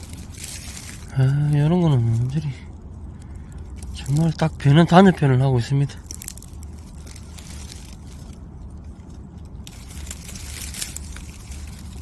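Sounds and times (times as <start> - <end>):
dry leaves rustling: 0.0 - 12.0.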